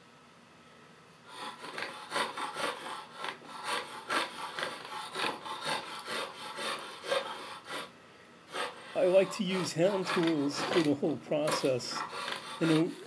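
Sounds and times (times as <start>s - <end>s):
draw knife scraping wood: 1.3s - 7.9s, 8.5s - 13.0s.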